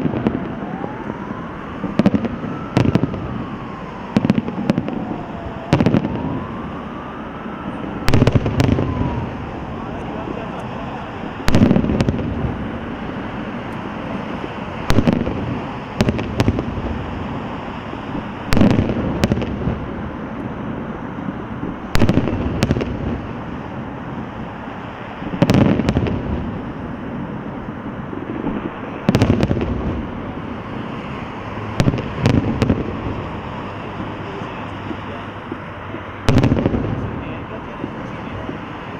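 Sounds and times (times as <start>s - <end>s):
background rumble and hiss: 0.0s - 38.9s.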